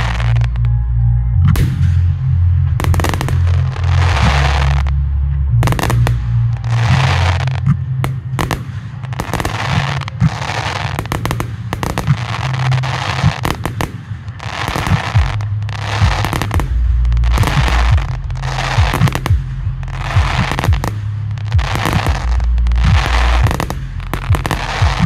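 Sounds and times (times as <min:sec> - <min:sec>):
fireworks crackling: 0:00.0 - 0:00.6, 0:02.8 - 0:04.9, 0:05.7 - 0:25.0
fireworks bangs: 0:02.8 - 0:04.9, 0:05.6 - 0:25.0.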